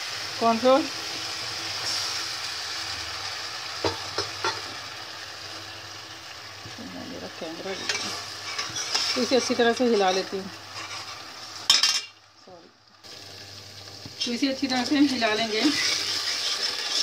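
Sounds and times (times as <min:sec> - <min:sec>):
sauce simmering and sizzling: 0:00.0 - 0:17.0.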